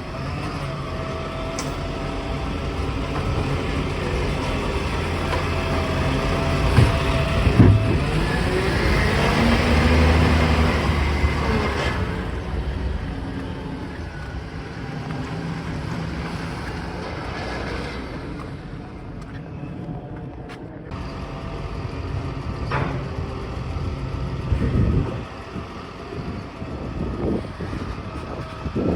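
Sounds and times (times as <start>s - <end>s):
garbage truck engine: 0.0s - 28.9s.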